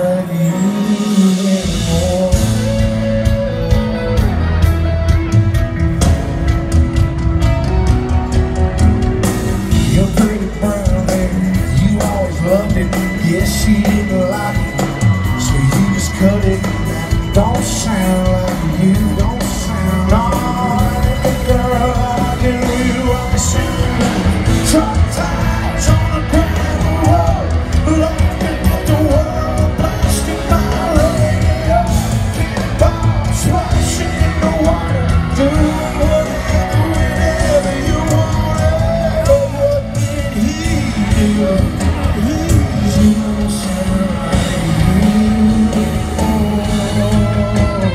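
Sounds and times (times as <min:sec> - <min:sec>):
live country band: 0:00.0 - 0:47.9
person singing: 0:00.0 - 0:47.9.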